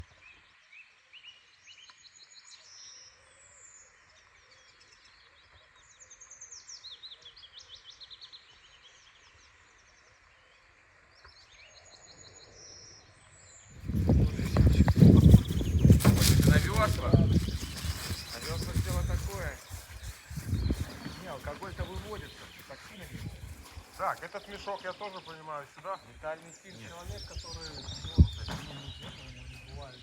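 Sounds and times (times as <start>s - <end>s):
songbirds chirping and trilling: 0.0s - 30.0s.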